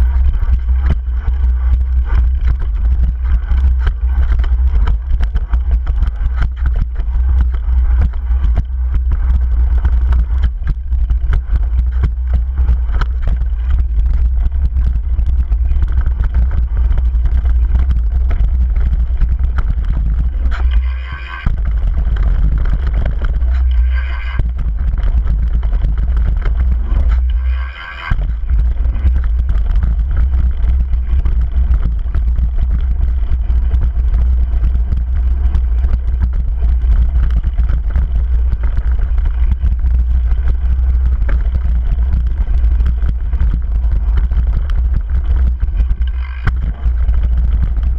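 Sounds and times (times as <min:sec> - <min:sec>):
bike rattling on dirt trail: 0:00.0 - 0:47.9
wind buffeting microphone: 0:00.0 - 0:47.9.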